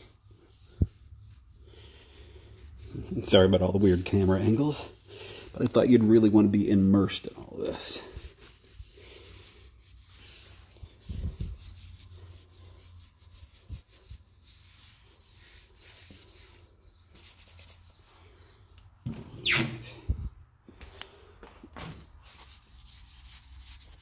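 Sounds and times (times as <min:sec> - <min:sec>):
cloth rag rubbing on metal frame: 0:00.0 - 0:20.3, 0:22.2 - 0:24.0.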